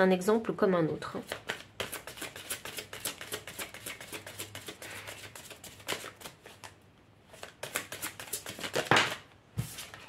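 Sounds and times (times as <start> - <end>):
cards being shuffled: 1.2 - 10.0.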